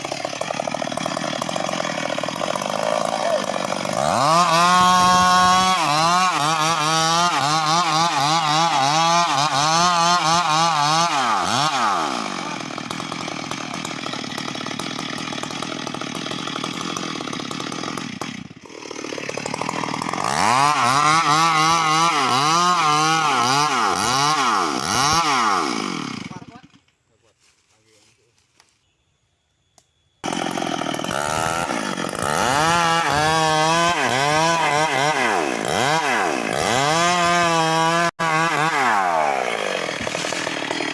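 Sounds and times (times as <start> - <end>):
chainsaw cutting wood: 0.0 - 27.0, 30.2 - 40.9.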